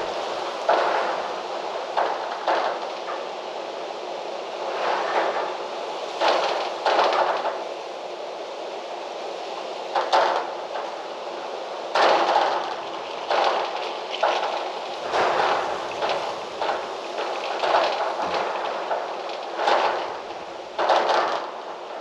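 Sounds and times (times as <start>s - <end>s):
wind rustling through trees: 0.0s - 22.0s.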